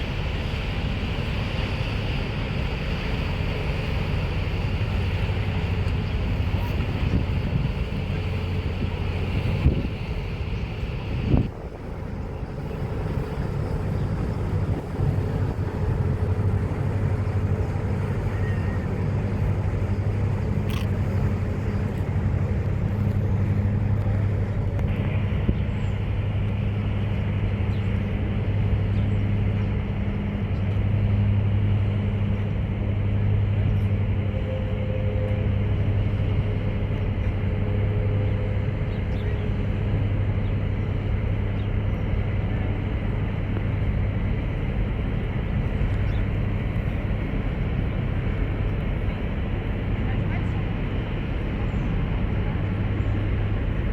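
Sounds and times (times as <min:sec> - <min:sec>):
ship engine low drone: 0:00.0 - 0:53.9
water noise: 0:00.0 - 0:53.9
wind: 0:00.0 - 0:53.9.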